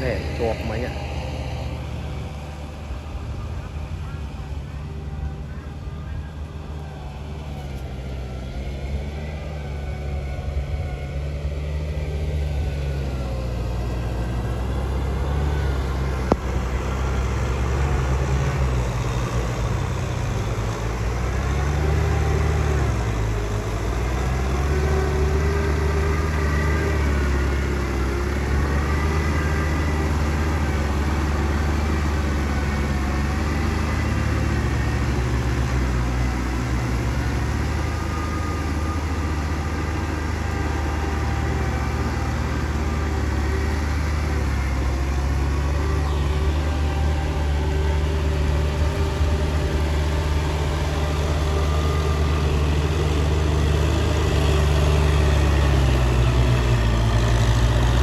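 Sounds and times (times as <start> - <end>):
tractor diesel engines under load: 0.0 - 58.0.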